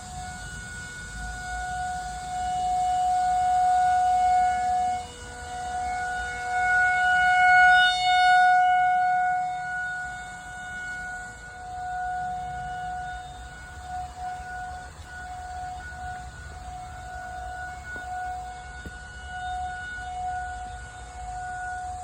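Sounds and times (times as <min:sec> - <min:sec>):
tornado warning siren wailing: 0:00.0 - 0:22.0.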